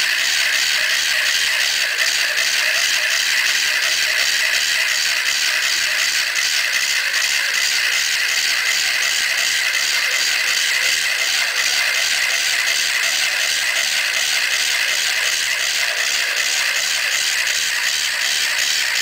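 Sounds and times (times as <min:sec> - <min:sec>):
electric gear motor whirring: 0:00.0 - 0:19.0
tracks clicking and rattling: 0:00.0 - 0:19.0.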